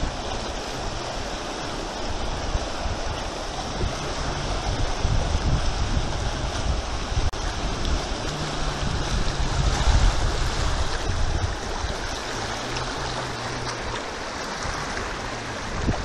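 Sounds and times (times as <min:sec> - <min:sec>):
river rapids roaring: 0:00.0 - 0:16.0.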